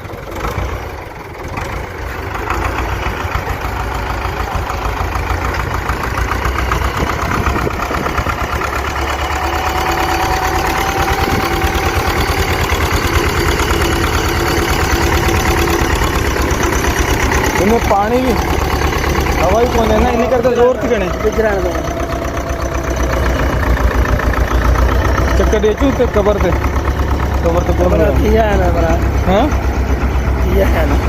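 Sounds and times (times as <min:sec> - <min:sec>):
tractor engine chugging: 0:00.0 - 0:31.0.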